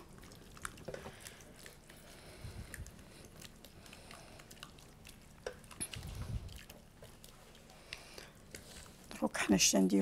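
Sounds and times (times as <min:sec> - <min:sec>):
wet squishing of marinade: 0:00.0 - 0:10.0.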